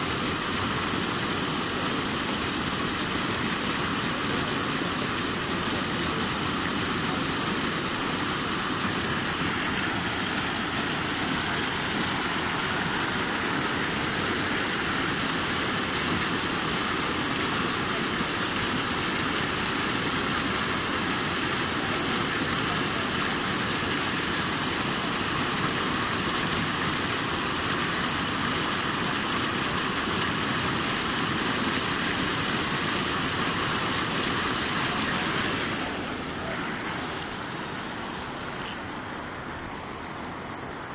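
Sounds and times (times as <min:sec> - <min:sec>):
water rushing over weir: 0:00.0 - 0:40.9.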